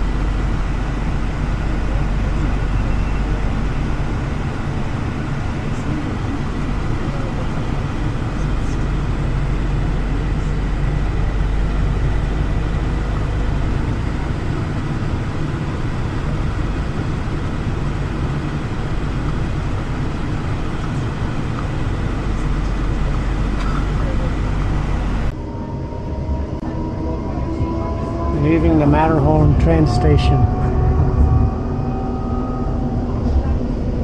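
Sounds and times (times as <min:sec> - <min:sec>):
faint high whine: 0:00.0 - 0:17.1, 0:20.2 - 0:34.0
train low rumble: 0:00.0 - 0:34.0.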